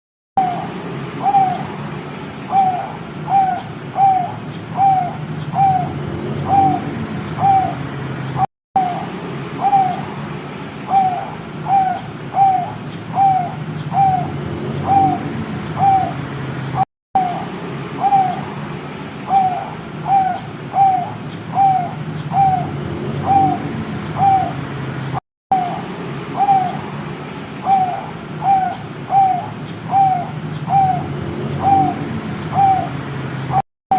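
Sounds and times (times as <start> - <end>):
dove cooing: 0.4 - 10.3, 10.9 - 16.2, 17.2 - 24.6, 25.5 - 33.6.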